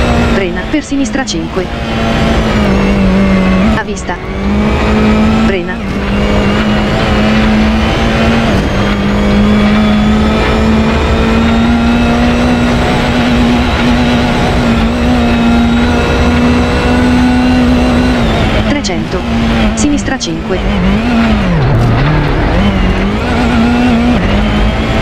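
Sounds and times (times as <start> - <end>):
car engine revving hard: 0.0 - 25.0
gravel road noise: 0.0 - 25.0.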